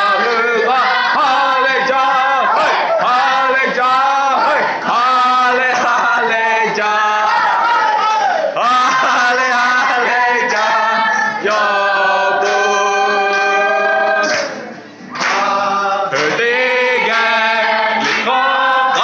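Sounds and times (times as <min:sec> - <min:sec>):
acoustic guitar: 0:00.0 - 0:19.0
congregation singing: 0:00.0 - 0:19.0.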